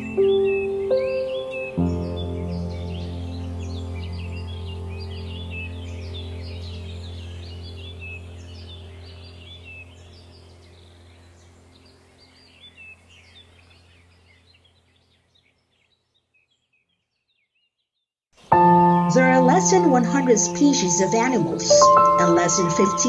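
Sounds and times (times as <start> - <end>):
low held music chord: 0.0 - 14.7, 18.5 - 23.0
birds chirping and twittering: 0.0 - 23.0.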